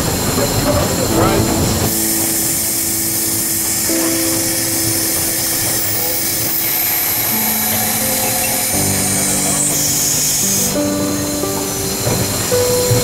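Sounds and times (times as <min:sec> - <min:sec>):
loud steady hiss: 0:00.0 - 0:13.0
music of long held notes: 0:00.0 - 0:13.0.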